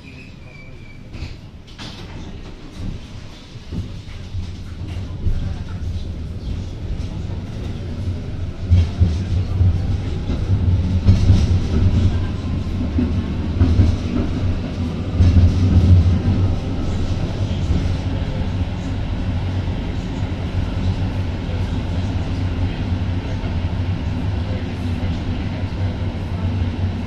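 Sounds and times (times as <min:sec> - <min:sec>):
tram motors and wheels rumbling: 0:00.0 - 0:27.0.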